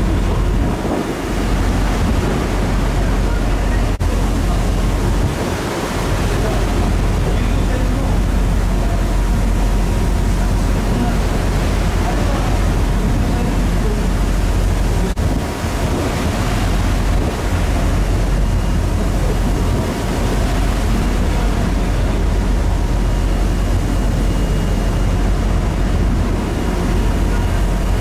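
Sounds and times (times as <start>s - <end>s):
low steady ship rumble: 0.0s - 28.0s
rush of the sea: 0.0s - 28.0s
wind buffeting microphone: 0.0s - 28.0s.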